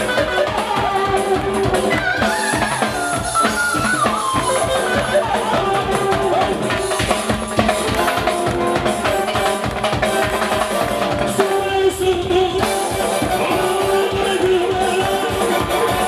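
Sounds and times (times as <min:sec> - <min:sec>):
fast drum and cymbal strikes: 0:00.0 - 0:16.0
live band music: 0:00.0 - 0:16.0.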